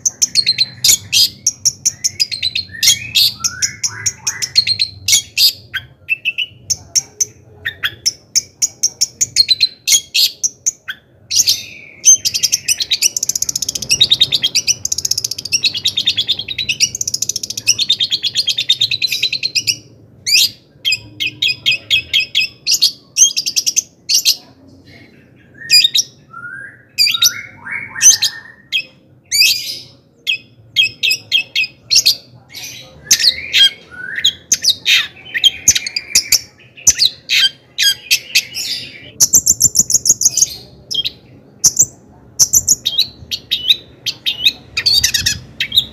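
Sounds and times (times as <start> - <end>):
shrike singing: 0.0 - 45.9.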